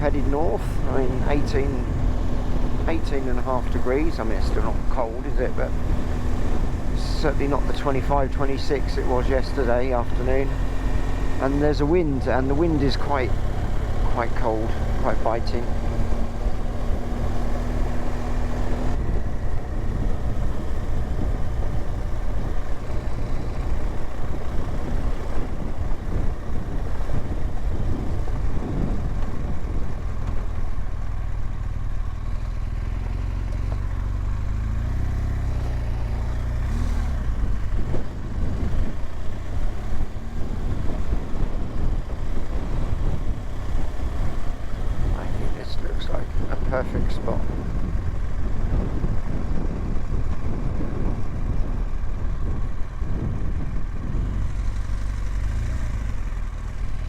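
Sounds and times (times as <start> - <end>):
wind noise: 0.0 - 32.8, 33.6 - 57.0
motorcycle engine running: 0.0 - 57.0.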